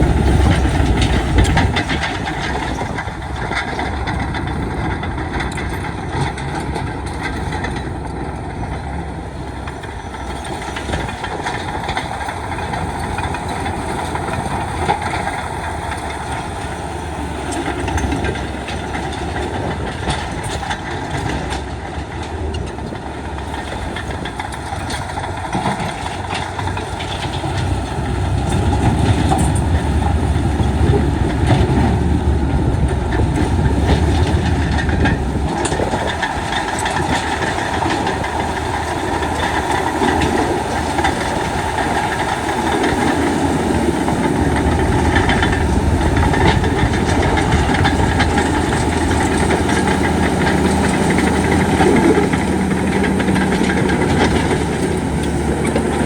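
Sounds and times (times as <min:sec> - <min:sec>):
clanking and track clatter: 0:00.0 - 0:56.0
diesel engine under load: 0:00.0 - 0:56.0.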